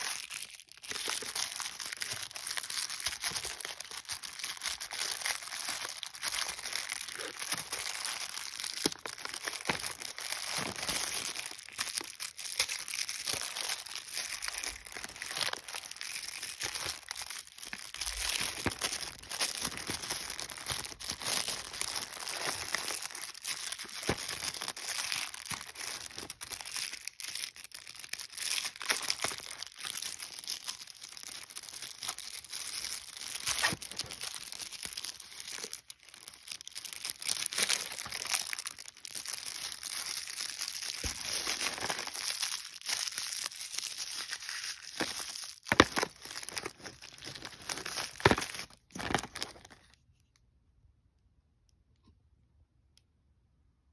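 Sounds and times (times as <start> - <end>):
plastic wrapping crinkling: 0.0 - 50.0.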